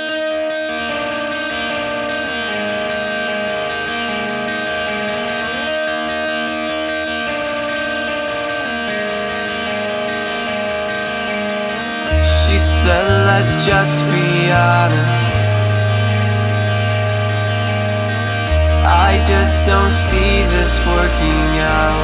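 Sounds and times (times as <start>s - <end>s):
guitar chords through effects: 0.0s - 22.0s.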